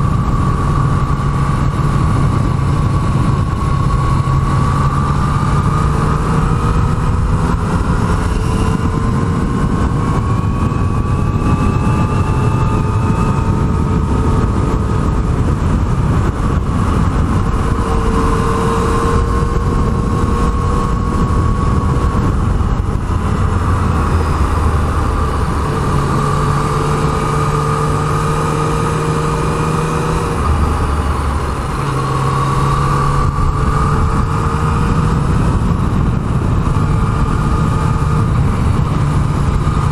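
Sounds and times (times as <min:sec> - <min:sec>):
low wind rush: 0:00.0 - 0:39.9
motorcycle engine revving: 0:00.0 - 0:39.9.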